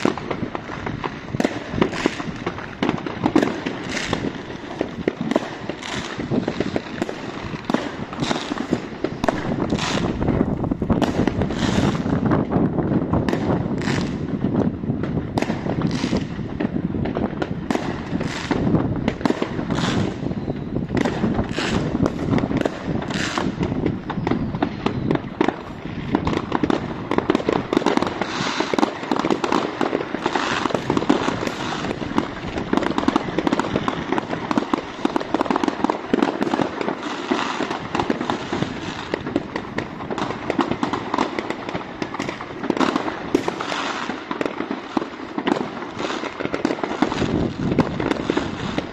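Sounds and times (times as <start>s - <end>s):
fireworks bangs and crackle: 0.0s - 48.9s.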